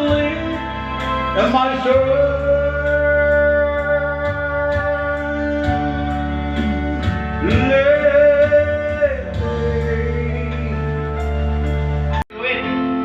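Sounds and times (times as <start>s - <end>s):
karaoke backing track with guitar: 0.0s - 13.0s.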